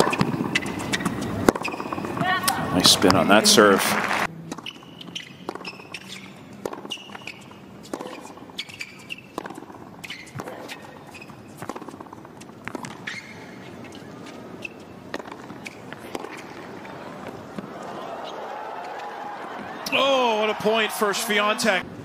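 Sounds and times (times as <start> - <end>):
tennis racket hitting ball: 0.0 - 3.4, 4.5 - 20.0
tennis ball bouncing: 0.0 - 20.0
shoes squeaking on court: 0.0 - 20.9.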